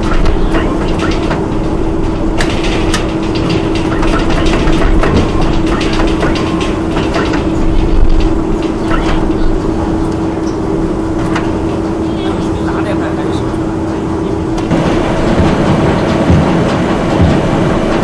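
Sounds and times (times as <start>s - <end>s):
metallic knocks and clatter: 0.0s - 11.8s, 14.6s - 18.0s
heavy machinery running: 0.0s - 18.0s.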